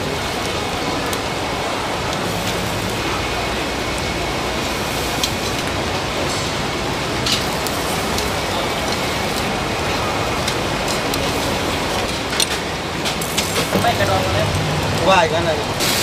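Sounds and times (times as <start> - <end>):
seafood sizzling on a grill: 0.0 - 16.0.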